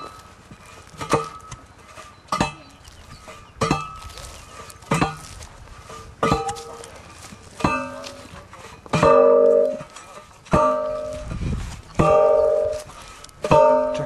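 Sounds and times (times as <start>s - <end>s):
post driver metallic clangs: 0.0s - 11.4s, 12.0s - 12.8s, 13.4s - 14.0s.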